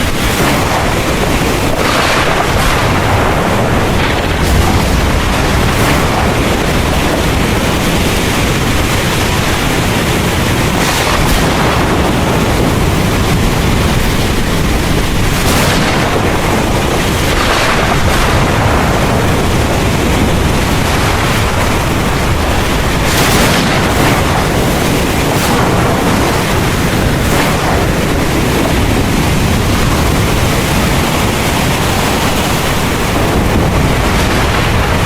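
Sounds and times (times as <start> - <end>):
deep rumble of thunder: 0.0 - 35.0
heavy rain pouring: 0.0 - 35.0.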